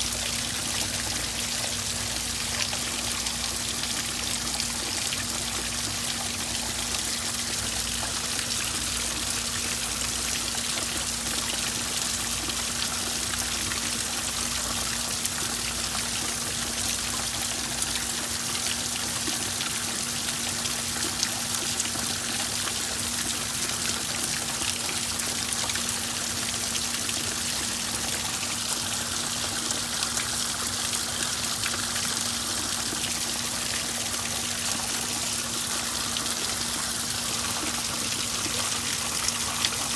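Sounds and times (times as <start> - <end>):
rain pattering on pond: 0.0 - 39.9
water splashing and trickling: 0.0 - 39.9.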